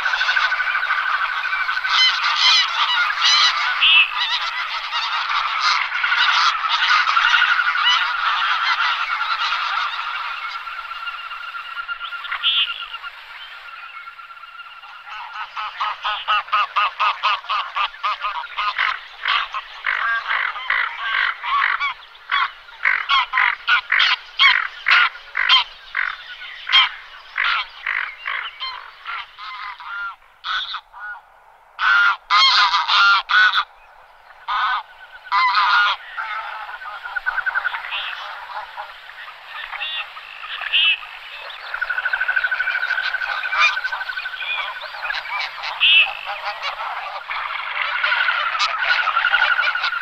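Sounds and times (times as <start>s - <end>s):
geese honking: 0.0s - 50.0s.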